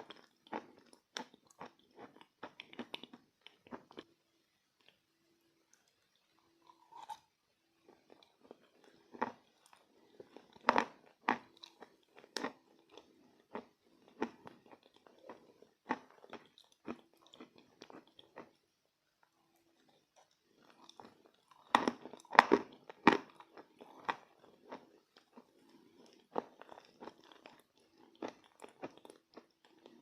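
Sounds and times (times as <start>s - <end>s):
person crunching and chewing chalk: 0.0s - 4.1s, 7.8s - 18.6s, 19.5s - 30.0s.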